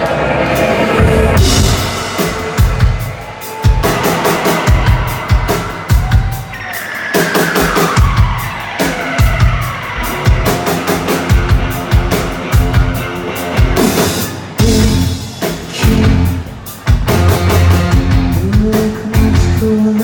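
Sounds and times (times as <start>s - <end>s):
rock band playing loudly: 0.0s - 20.0s.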